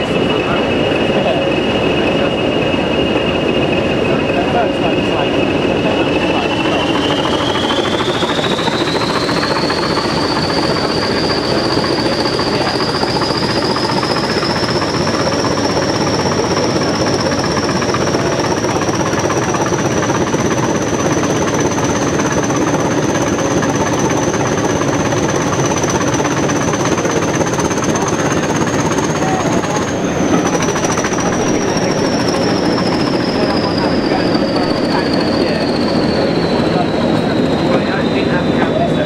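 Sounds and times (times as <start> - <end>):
diesel locomotive engine rumbling: 0.0 - 39.0
train wheels running: 0.0 - 39.0
turbocharger whistle: 0.0 - 39.0.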